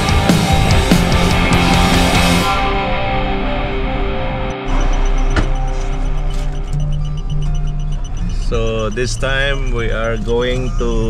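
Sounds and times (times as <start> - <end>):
music of long held notes: 0.0 - 11.0.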